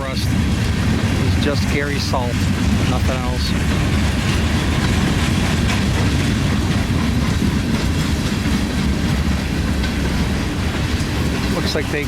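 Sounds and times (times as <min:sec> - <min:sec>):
steel wheels rumbling on rail: 0:00.0 - 0:12.0
wheels clacking over rail joints: 0:00.0 - 0:12.0.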